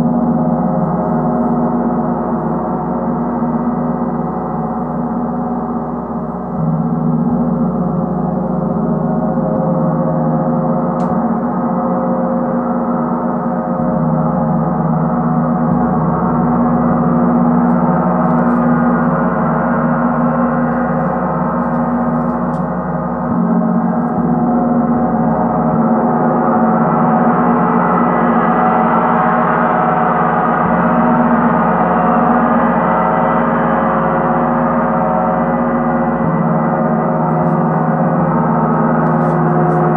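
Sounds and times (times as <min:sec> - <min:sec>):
large gong played with mallet: 0:00.0 - 0:39.9.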